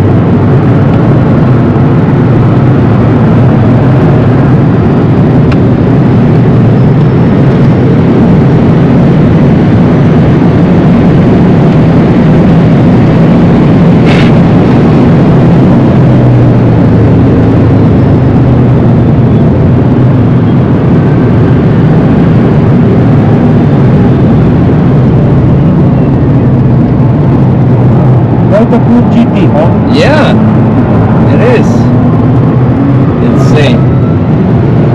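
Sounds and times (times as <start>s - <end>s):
road tyre and wind noise: 0.0s - 34.9s.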